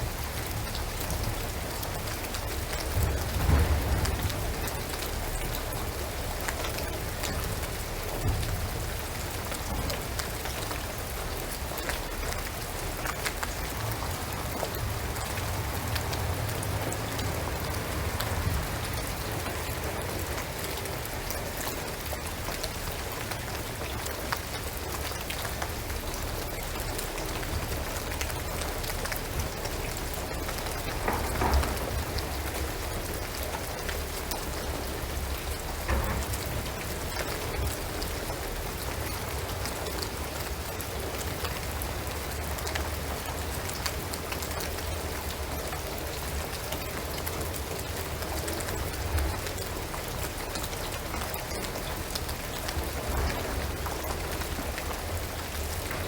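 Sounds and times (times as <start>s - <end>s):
rain on a roof and trees: 0.0s - 56.0s.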